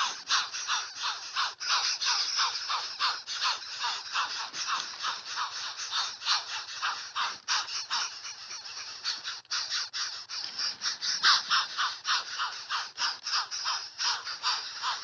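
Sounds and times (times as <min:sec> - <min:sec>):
chicks harsh rasping calls: 0:00.0 - 0:15.0.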